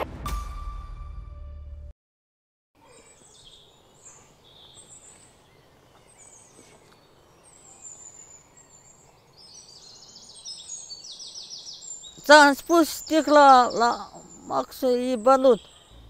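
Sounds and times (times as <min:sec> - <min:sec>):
birds chirping and trilling: 0:02.8 - 0:16.0
faint outdoor hiss: 0:02.8 - 0:16.0.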